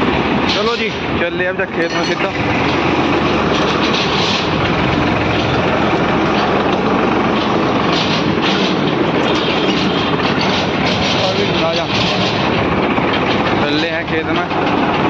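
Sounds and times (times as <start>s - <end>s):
rattling clatter of machine: 0.0s - 15.0s
tractor diesel engine running: 0.0s - 15.0s.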